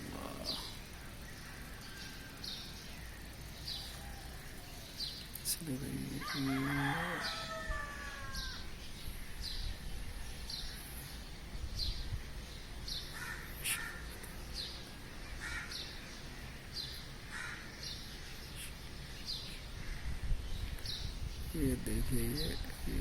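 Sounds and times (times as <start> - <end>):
lower bird calls: 0.0 - 23.0.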